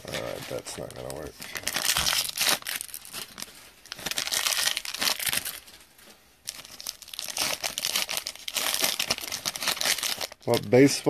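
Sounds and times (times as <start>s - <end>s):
foil pack crinkling and tearing: 0.0s - 11.0s.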